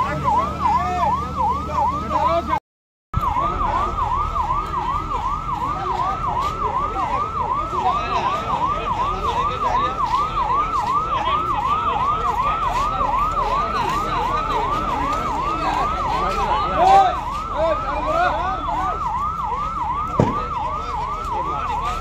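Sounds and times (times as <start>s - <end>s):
electronic siren yelping: 0.0s - 2.6s, 3.2s - 22.0s.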